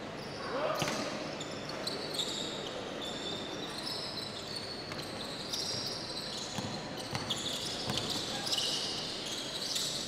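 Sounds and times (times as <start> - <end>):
sneakers squeaking on court: 1.4 - 10.0.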